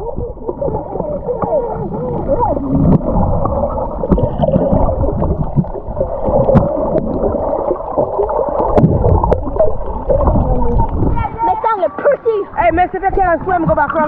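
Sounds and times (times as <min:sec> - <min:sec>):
underwater sloshing and gurgling: 0:00.0 - 0:11.8.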